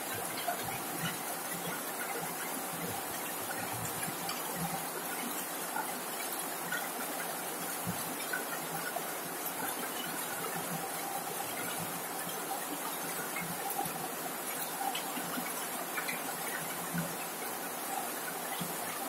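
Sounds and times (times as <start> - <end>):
heavy rain on a metal roof: 0.0 - 19.0.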